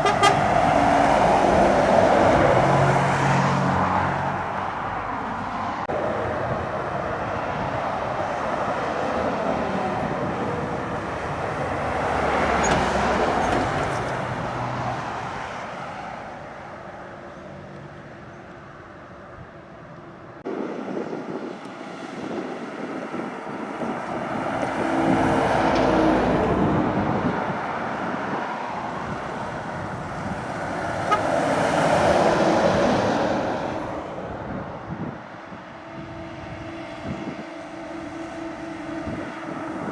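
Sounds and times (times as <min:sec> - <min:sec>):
heavy trucks climbing a hill: 0:00.0 - 0:39.9.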